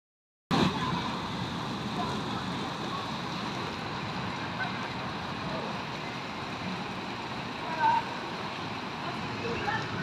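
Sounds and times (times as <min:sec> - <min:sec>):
outdoor background noise: 0:00.5 - 0:10.0.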